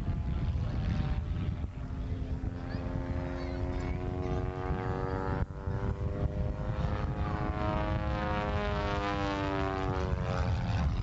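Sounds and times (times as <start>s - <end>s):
low rumble: 0.0s - 11.0s
propeller plane engine droning: 0.0s - 11.0s.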